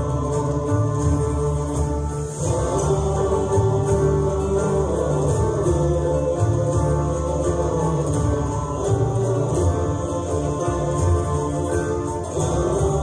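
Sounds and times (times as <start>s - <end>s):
folk choir singing: 0.0s - 13.0s.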